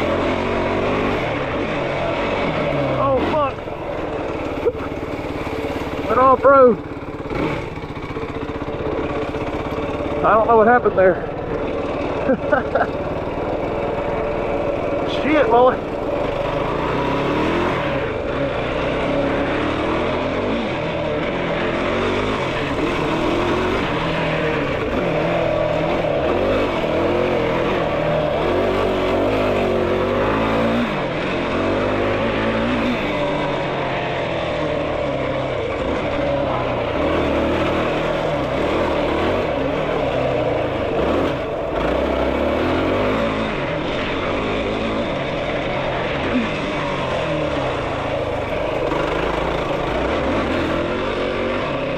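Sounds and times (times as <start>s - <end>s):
quad engine revving: 0.0s - 51.9s.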